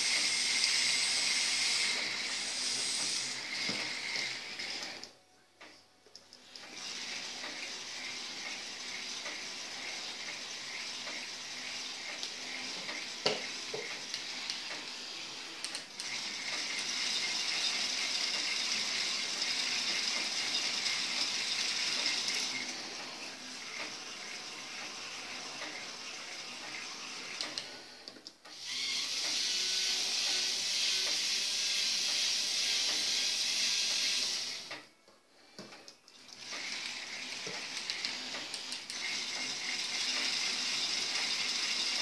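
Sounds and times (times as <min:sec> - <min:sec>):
small electric motors whirring: 0:00.0 - 0:05.2, 0:06.4 - 0:34.8, 0:36.1 - 0:42.0.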